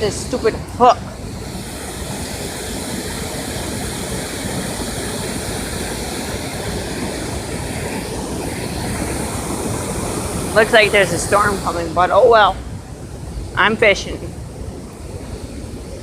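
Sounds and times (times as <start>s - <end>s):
water rushing through dam: 0.0s - 16.0s.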